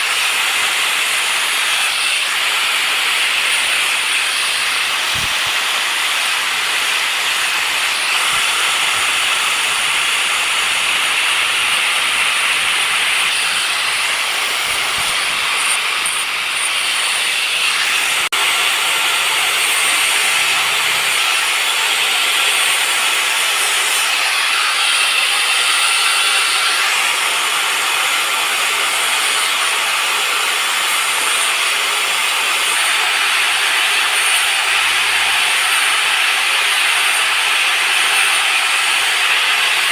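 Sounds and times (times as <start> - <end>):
power tool grinding knife: 0.0 - 39.9.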